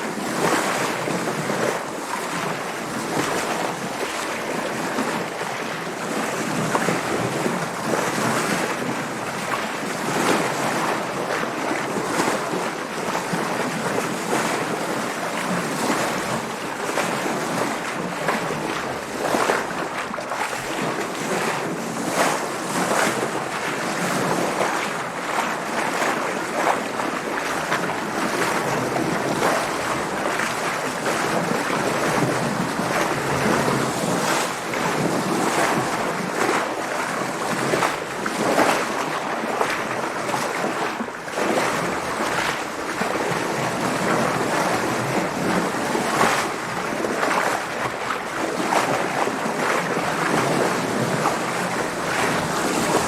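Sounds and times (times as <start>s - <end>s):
water sloshing against hull: 0.0s - 53.0s.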